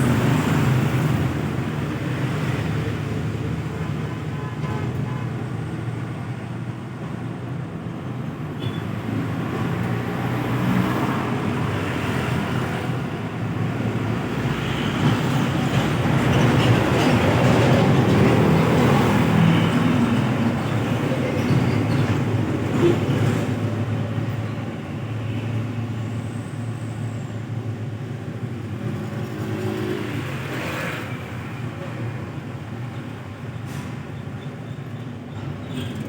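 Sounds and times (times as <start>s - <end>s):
heavy vehicle engines running: 0.0s - 36.0s
highway traffic: 0.0s - 36.0s.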